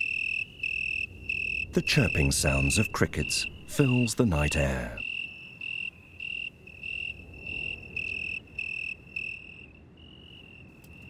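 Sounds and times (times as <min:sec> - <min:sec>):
tree cricket chirping: 0:00.0 - 0:11.0.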